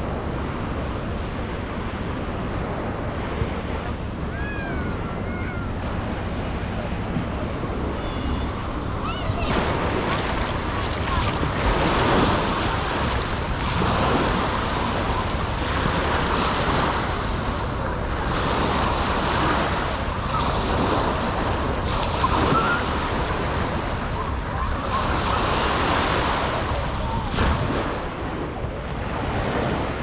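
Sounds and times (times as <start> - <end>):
small waves breaking: 0.0 - 30.0
wind buffeting microphone: 0.0 - 30.0.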